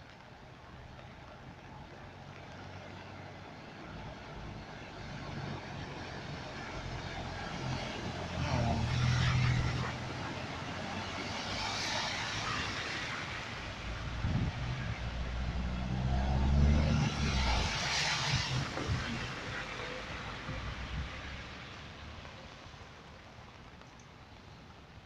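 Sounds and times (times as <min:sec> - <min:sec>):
car splashing through water: 0:00.9 - 0:24.6.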